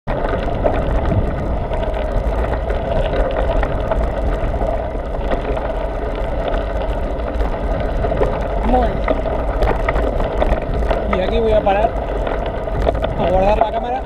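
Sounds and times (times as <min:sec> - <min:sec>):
wind: 0:00.0 - 0:14.0
bike tyres rumbling on gravel: 0:00.1 - 0:14.0
stones and bike rattling: 0:00.1 - 0:14.0.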